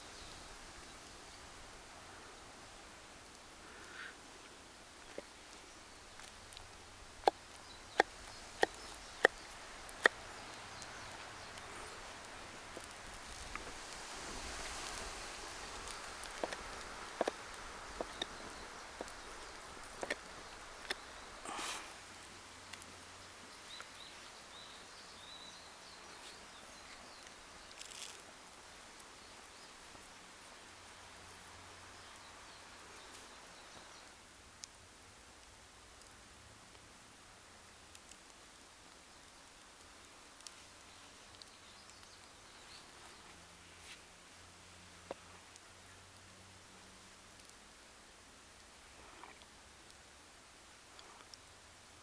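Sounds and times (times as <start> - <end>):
faint steady hiss: 0.0 - 52.0.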